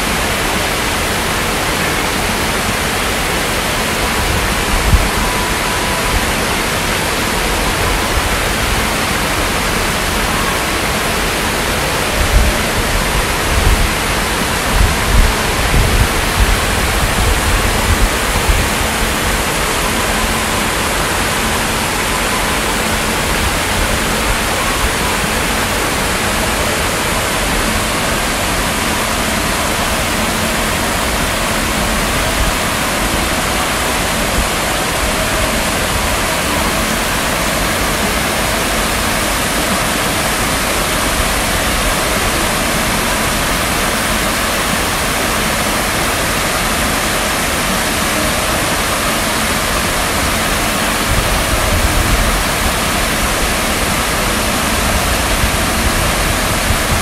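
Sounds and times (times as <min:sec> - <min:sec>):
waterfall splashing into pond: 0:00.0 - 0:57.0.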